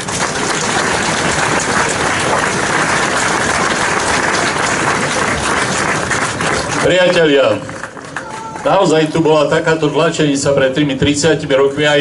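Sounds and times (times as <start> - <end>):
crowd applauding: 0.0 - 10.1.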